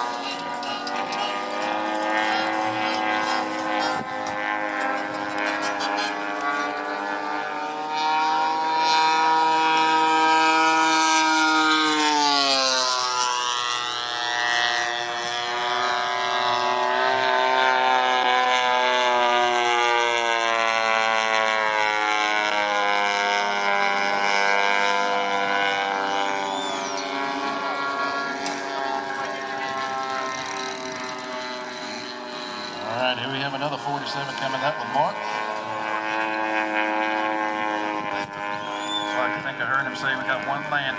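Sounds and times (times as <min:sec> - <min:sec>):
model plane engine in flight: 0:00.0 - 0:40.9.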